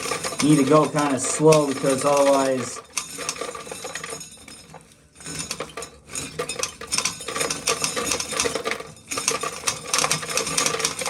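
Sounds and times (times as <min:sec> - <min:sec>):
corn kernels rattling into bucket: 0:00.0 - 0:11.0.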